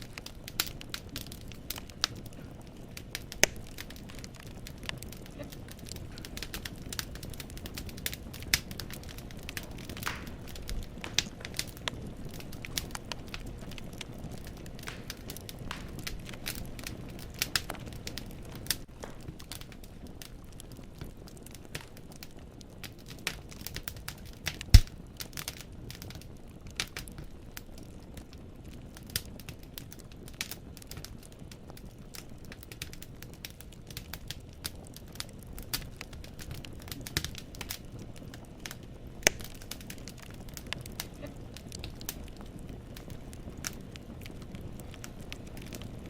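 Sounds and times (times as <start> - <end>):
firewood snapping and popping: 0.0 - 46.0
soft rumble of flame: 0.0 - 46.0.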